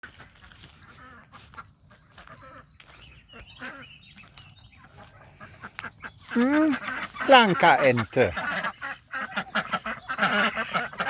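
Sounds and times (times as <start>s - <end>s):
ducks quacking softly: 0.5s - 11.0s.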